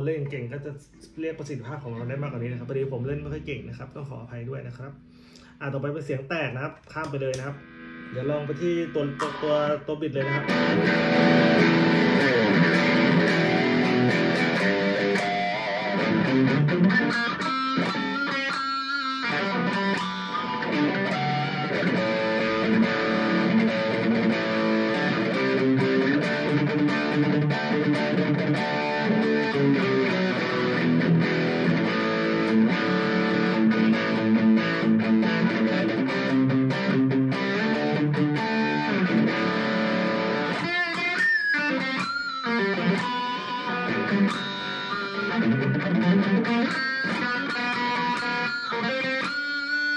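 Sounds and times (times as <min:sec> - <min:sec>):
distorted electric guitar: 0:06.6 - 0:49.9.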